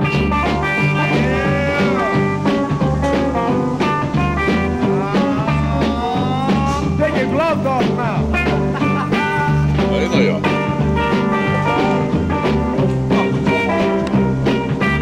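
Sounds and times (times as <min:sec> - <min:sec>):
guitar with bent notes: 0:00.0 - 0:15.0.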